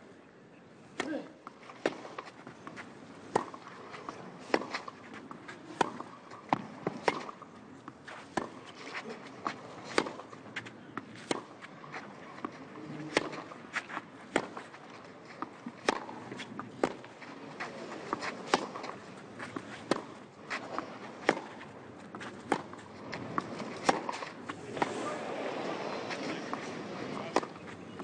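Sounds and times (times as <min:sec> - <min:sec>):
tennis ball off racket: 0:00.9 - 0:28.0
tennis ball bouncing: 0:01.0 - 0:28.0.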